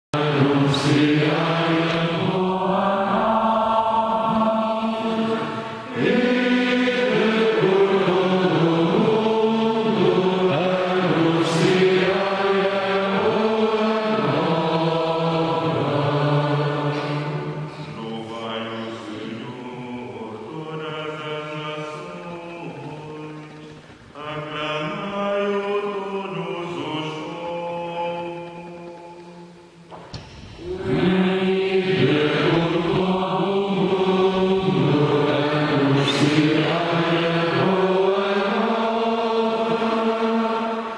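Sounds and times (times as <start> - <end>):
voices singing a slow chant: 0.1 - 40.9.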